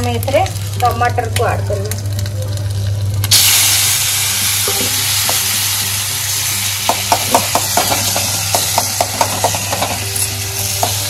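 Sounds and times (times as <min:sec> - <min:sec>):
oil sizzling loudly: 0:00.0 - 0:11.0.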